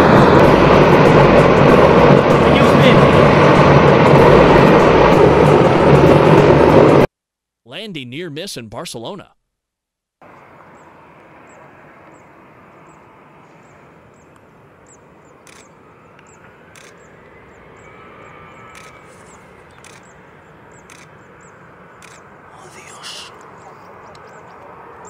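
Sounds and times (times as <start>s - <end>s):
jet engine noise: 0.0s - 7.1s, 10.2s - 25.0s.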